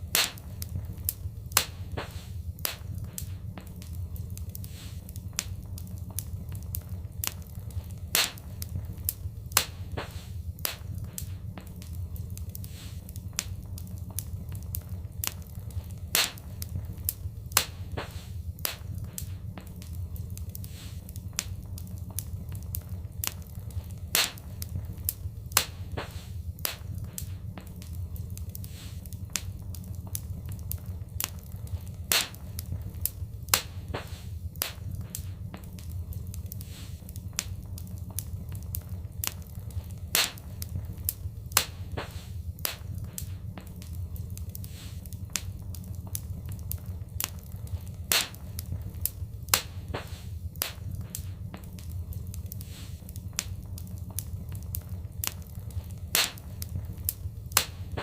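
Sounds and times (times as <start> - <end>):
low rumble of flame: 0.0 - 58.0
wood fire crackling and popping: 0.0 - 58.0.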